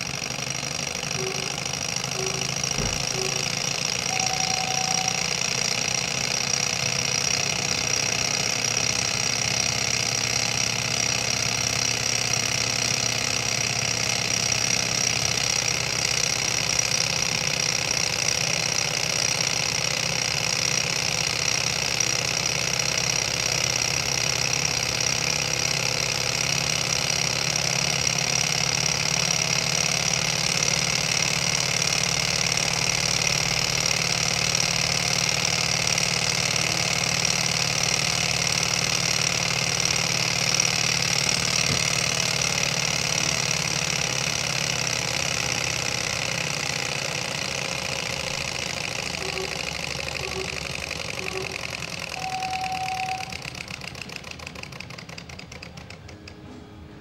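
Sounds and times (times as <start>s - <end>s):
small engine mechanical clatter: 0.0s - 57.0s.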